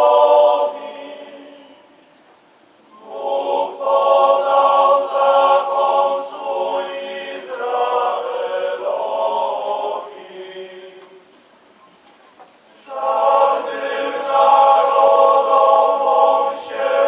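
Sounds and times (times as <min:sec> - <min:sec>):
male chorus singing: 0:00.0 - 0:02.0, 0:02.9 - 0:11.3, 0:12.8 - 0:17.0.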